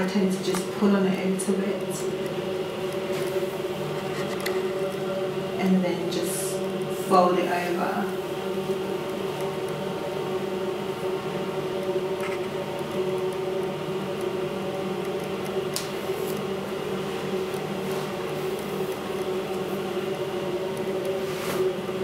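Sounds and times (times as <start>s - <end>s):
machine hum with fixed tones: 0.0s - 22.0s.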